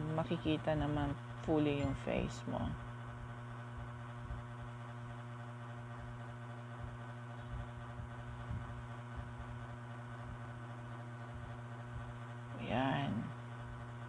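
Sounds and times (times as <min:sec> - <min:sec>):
hot-air dryer brush humming: 0:00.0 - 0:14.0.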